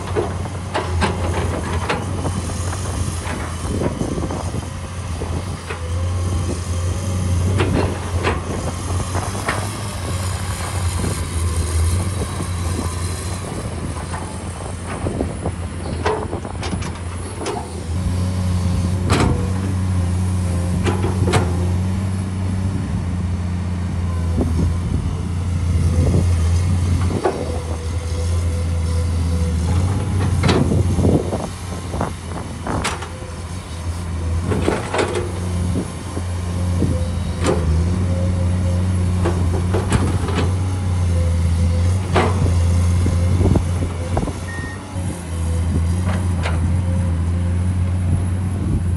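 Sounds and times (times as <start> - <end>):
excavator diesel engine droning: 0.0 - 48.9.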